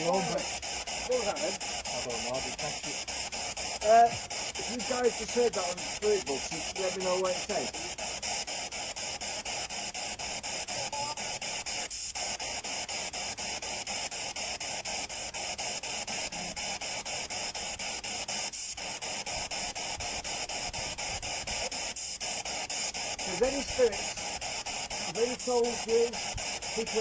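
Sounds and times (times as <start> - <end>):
radio static pulsing: 0.0 - 27.0.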